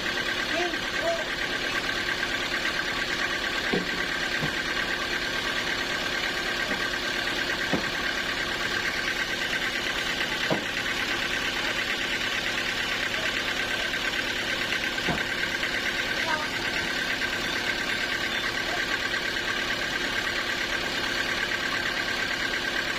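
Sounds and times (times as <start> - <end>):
sawmill engine running: 0.0 - 22.9.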